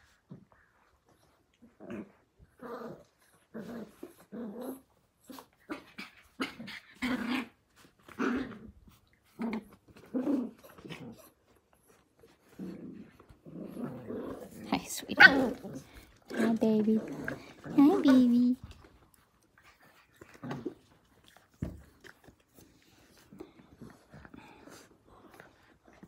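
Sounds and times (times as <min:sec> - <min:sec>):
puppies growling in play: 0:00.0 - 0:26.0.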